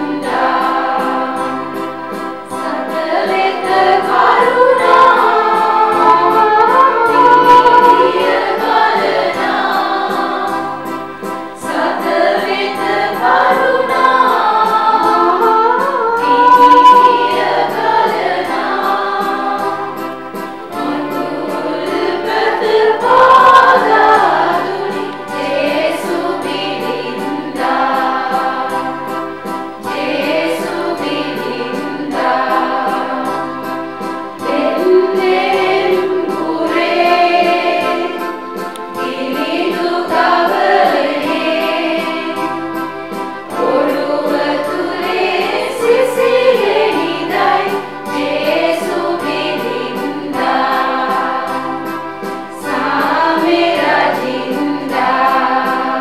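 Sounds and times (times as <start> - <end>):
choir singing a carol: 0.0 - 56.0
instrumental accompaniment: 0.0 - 56.0.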